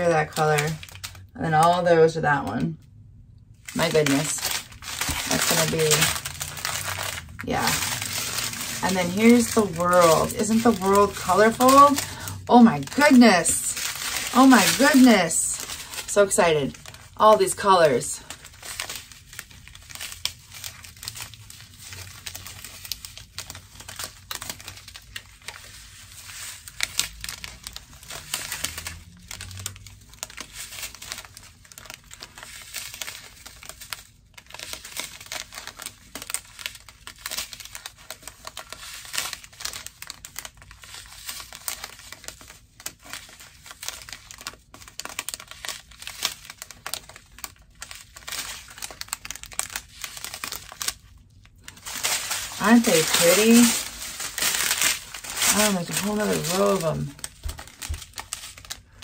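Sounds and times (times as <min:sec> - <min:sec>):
plastic bags crinkling: 0:00.0 - 0:02.6, 0:03.6 - 0:59.0.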